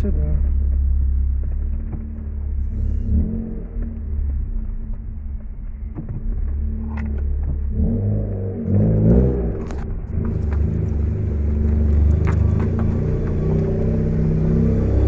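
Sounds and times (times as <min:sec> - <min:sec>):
car engine running: 0:00.0 - 0:15.0
road noise: 0:00.0 - 0:15.0.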